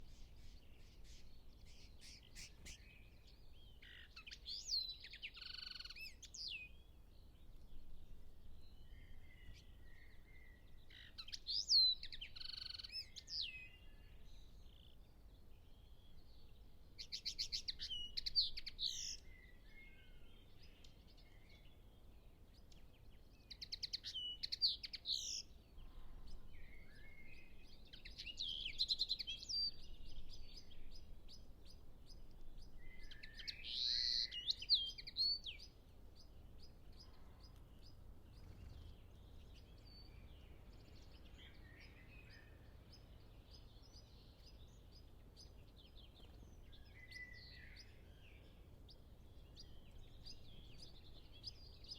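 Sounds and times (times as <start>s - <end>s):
bird singing: 0.0s - 51.9s
faint distant bird chirps: 0.0s - 51.9s.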